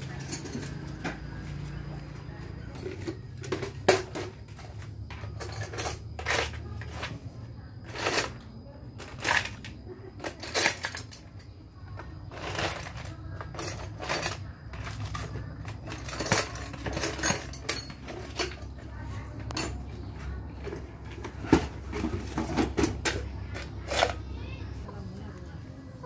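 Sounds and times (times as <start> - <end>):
metal tools clinking: 0.0 - 24.9.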